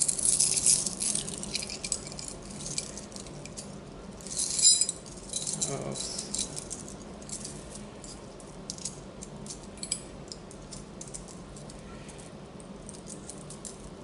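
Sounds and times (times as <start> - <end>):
small metal chains clinking: 0.0 - 13.9.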